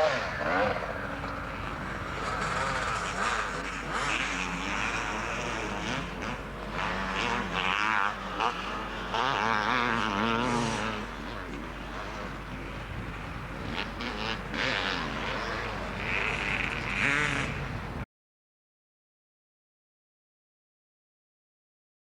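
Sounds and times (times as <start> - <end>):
motocross motorcycle engines revving: 0.0 - 18.0.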